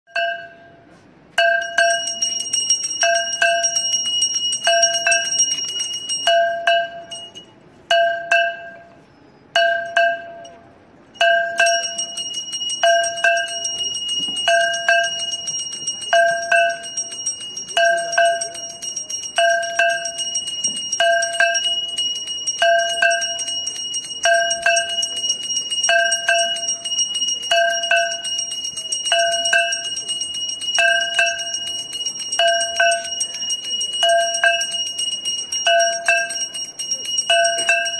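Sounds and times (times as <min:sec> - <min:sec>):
small hand bell ringing: 0:01.4 - 0:08.9, 0:11.2 - 0:37.9.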